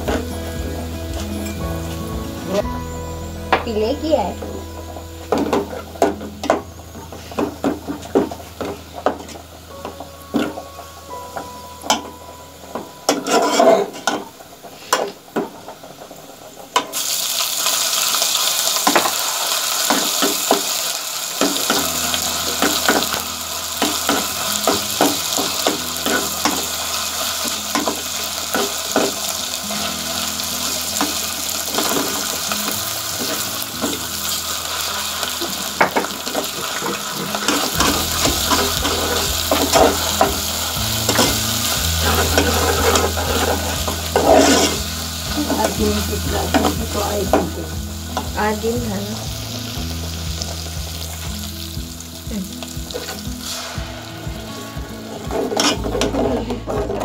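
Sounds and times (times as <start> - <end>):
onions sizzling in oil: 0.0 - 57.0.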